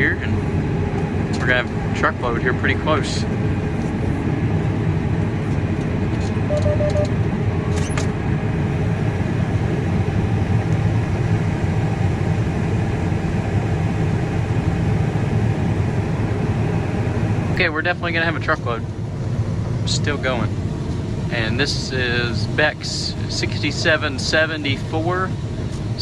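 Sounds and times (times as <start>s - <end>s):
combine harvester drone: 0.0s - 26.0s.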